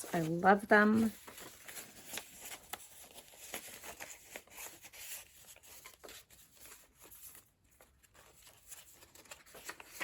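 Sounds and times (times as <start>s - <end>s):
paper pages rustling: 0.0s - 10.0s.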